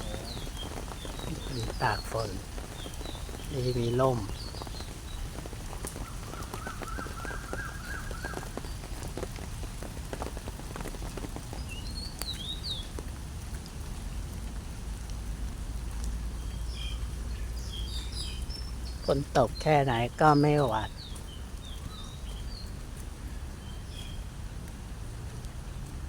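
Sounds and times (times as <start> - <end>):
rain falling: 0.0 - 26.0
raindrops tapping on umbrella: 0.0 - 26.0.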